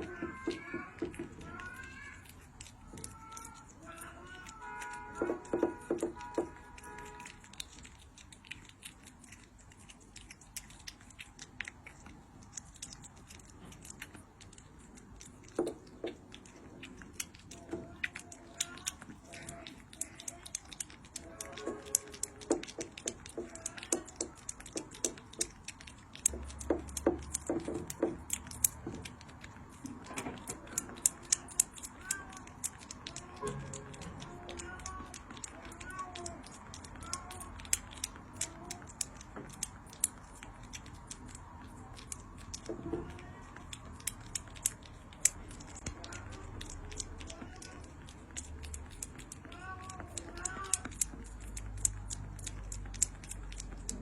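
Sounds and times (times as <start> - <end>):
cat crunching food: 0.0 - 54.0.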